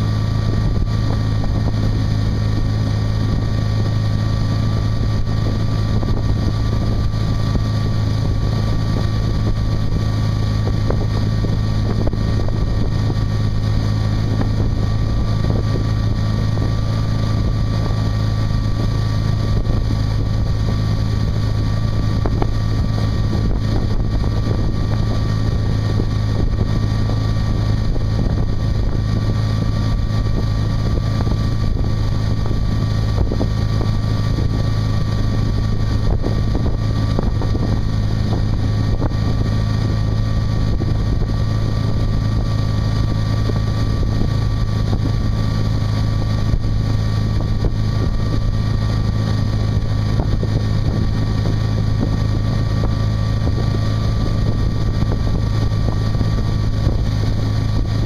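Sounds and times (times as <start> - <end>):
boat engine humming: 0.0 - 58.0
rushing wake water: 0.0 - 58.0
wind on microphone: 0.0 - 58.0.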